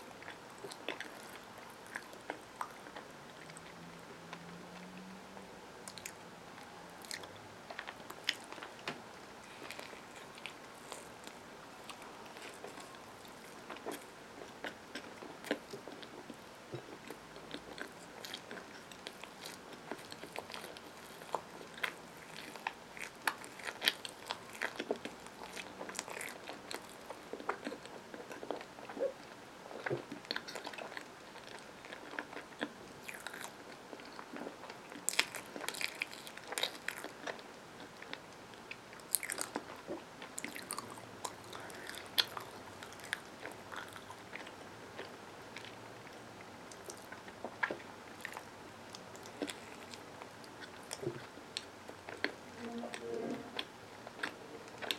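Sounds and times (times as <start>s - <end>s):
chewing sandwich: 0.0s - 5.2s, 5.8s - 54.9s.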